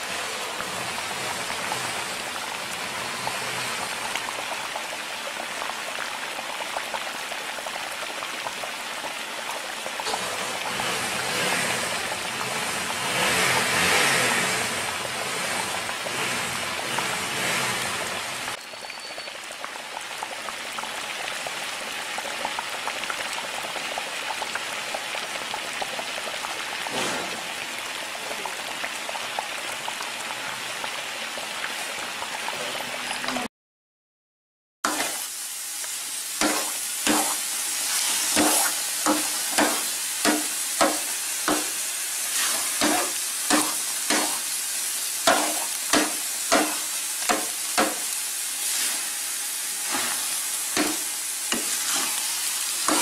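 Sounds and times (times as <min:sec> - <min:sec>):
milk bubbling in a pan: 0:00.0 - 0:33.1, 0:34.9 - 0:53.0.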